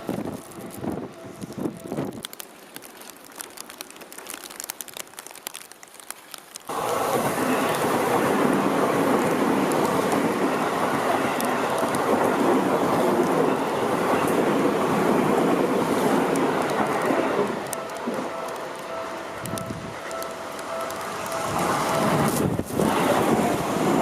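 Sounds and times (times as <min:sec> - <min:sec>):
commuter train rumbling past: 0:00.0 - 0:02.4, 0:06.7 - 0:24.0
rain drops ticking: 0:00.0 - 0:24.0.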